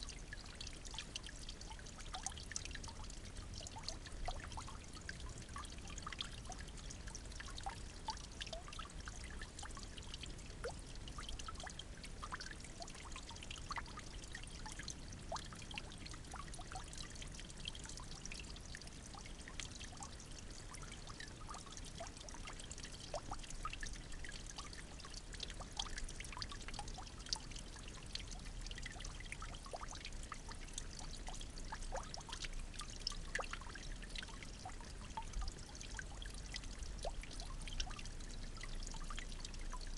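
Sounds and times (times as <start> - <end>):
water drips and splashes: 0.0 - 39.9
water trickling: 0.0 - 39.9.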